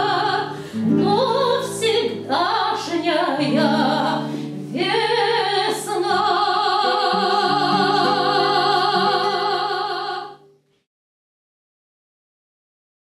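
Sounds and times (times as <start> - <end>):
domra: 0.0 - 10.7
guitar: 0.0 - 10.8.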